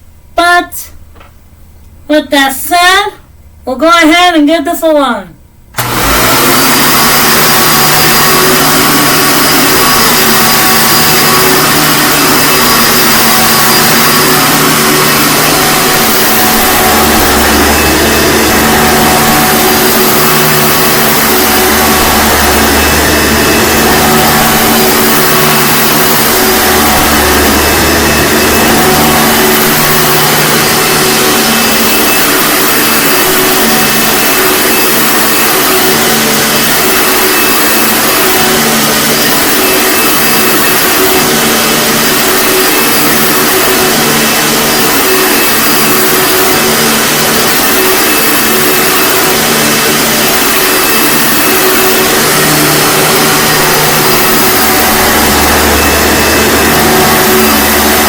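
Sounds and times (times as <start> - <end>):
vacuum cleaner running: 5.8 - 58.0.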